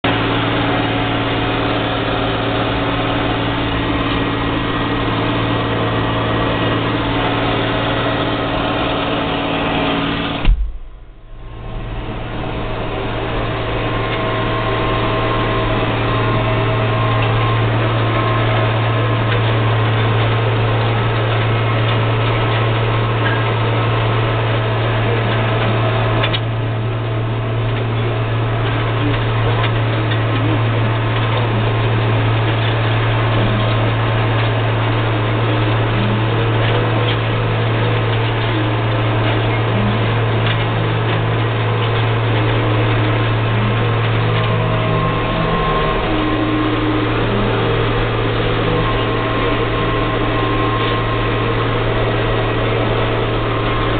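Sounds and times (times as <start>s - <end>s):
tractor diesel engine humming: 0.0s - 53.9s.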